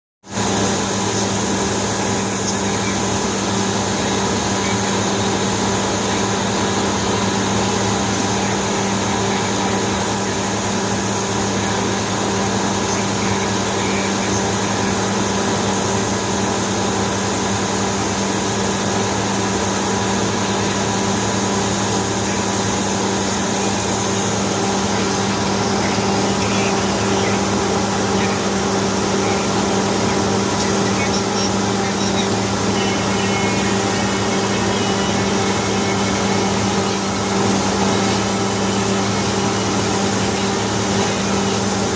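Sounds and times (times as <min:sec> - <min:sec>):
machine hum: 0:00.3 - 0:41.9.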